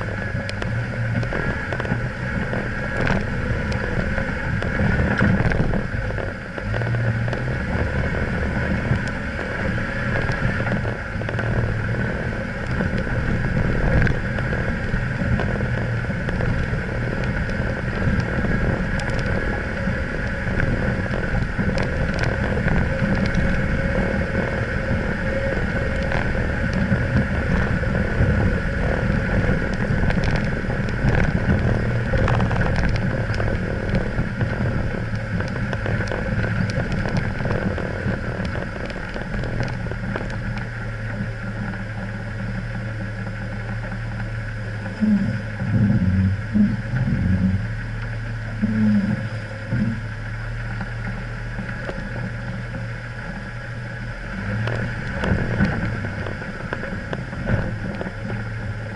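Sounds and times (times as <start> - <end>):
vehicle engine hum: 0.0 - 58.9.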